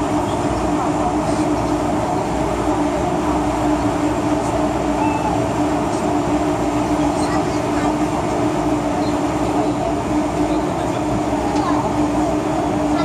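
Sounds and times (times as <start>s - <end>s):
train interior rumble and hum: 0.0s - 13.0s.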